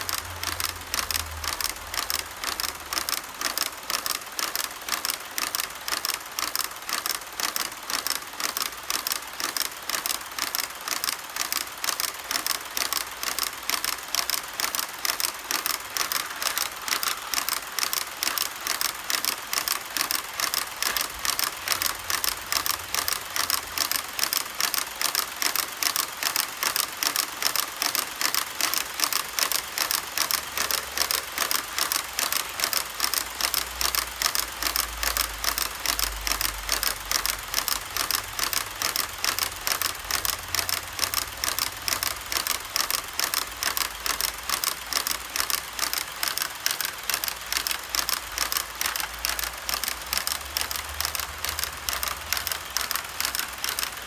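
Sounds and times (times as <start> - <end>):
model train wheels clicking: 0.0 - 54.0.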